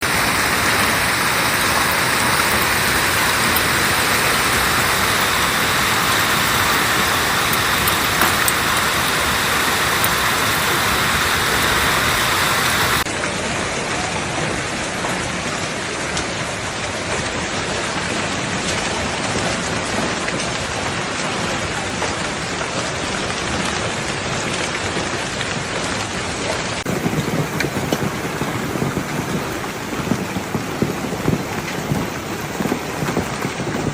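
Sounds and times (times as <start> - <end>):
hail and heavy rain pelting: 0.0 - 33.9.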